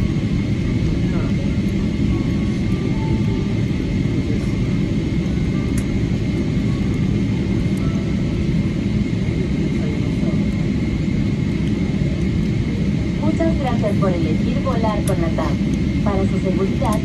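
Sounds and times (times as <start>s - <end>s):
aircraft cabin low rumble: 0.0s - 17.0s.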